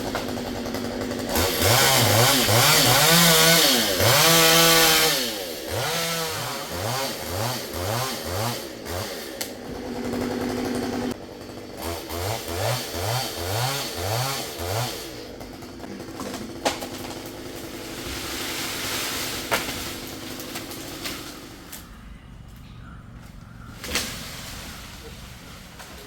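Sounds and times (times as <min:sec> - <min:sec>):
chainsaw revving: 0:00.0 - 0:21.8.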